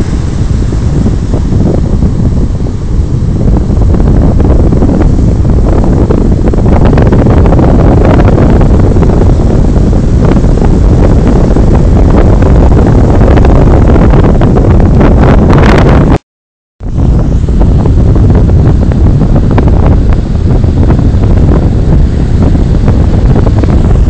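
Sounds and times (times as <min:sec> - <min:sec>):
wind buffeting microphone: 0:00.0 - 0:16.2, 0:16.8 - 0:24.0.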